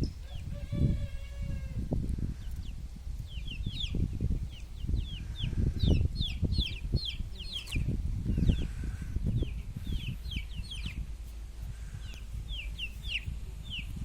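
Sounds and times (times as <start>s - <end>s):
chickens chirping: 0.0s - 14.0s.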